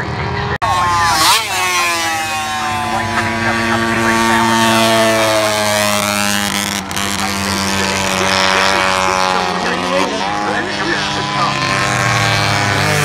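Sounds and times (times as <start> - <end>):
racing motorcycle engine: 0.0 - 13.0.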